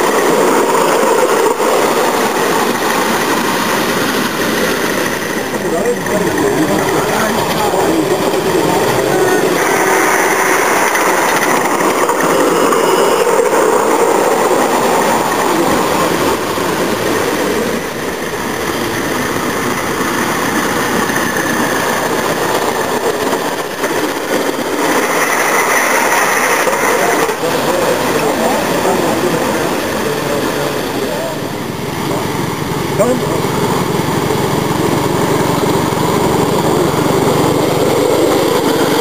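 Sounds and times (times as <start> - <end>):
steam exhaust rushing: 0.0 - 39.0
wheels on rails: 0.0 - 39.0.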